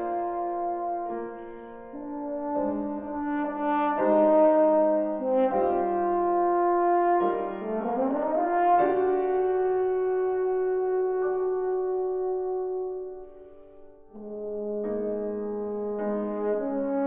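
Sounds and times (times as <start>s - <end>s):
french horn melody: 0.0s - 17.0s.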